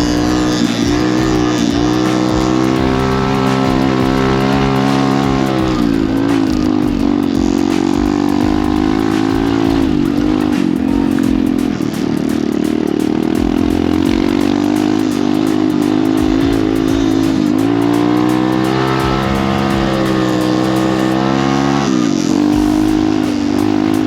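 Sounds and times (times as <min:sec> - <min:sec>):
pit bike engine running hard: 0:00.0 - 0:24.0.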